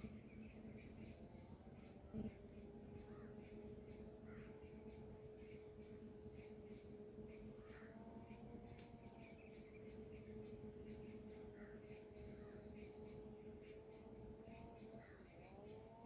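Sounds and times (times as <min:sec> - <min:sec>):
faint low drone: 0:00.0 - 0:16.0
insect trill: 0:00.0 - 0:16.0.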